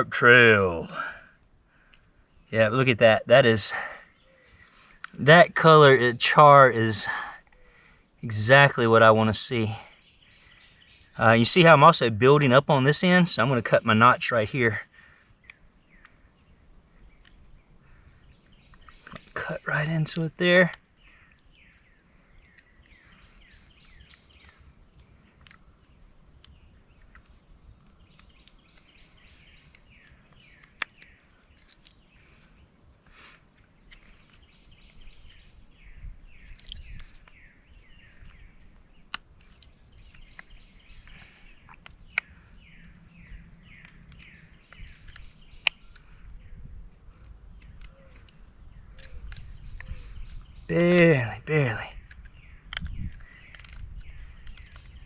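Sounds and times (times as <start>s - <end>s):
songbird down-slurred notes: 1.8s - 55.0s.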